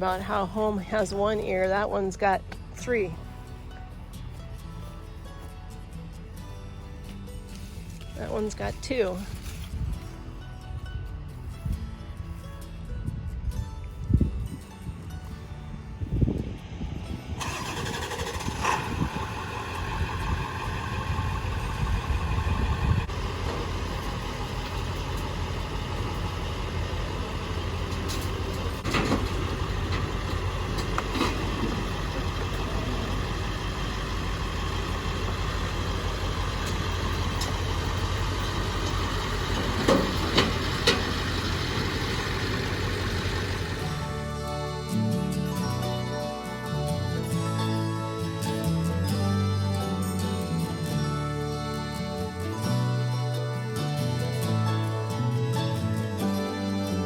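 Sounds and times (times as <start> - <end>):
truck engine starting and running: 0.0 - 57.0.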